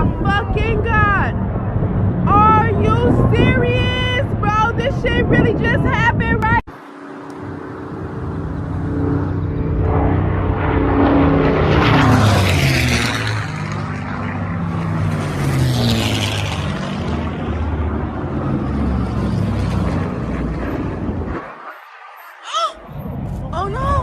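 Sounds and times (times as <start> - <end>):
aircraft engines droning: 0.0 - 24.0.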